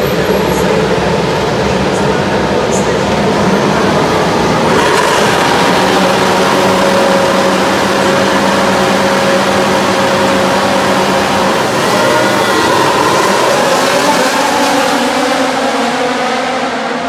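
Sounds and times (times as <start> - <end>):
race car engines held at revs: 0.0 - 17.0.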